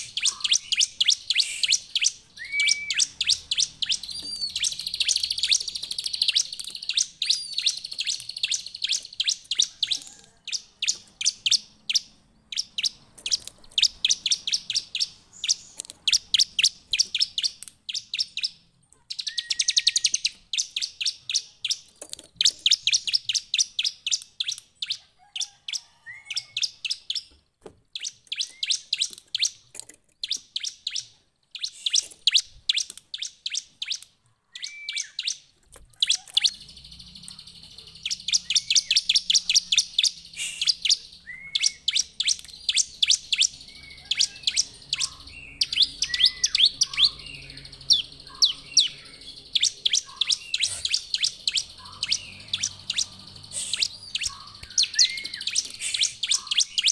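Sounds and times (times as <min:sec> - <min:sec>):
bird sharp high chirps: 0:00.0 - 0:56.9.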